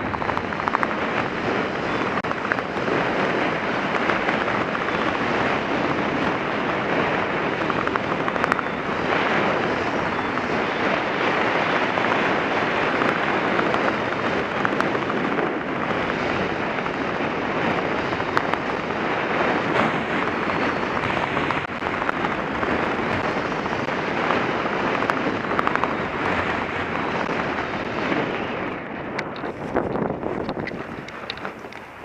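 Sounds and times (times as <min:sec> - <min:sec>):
small crackles: 0:00.0 - 0:32.0
wind rushing over microphone: 0:00.0 - 0:32.0.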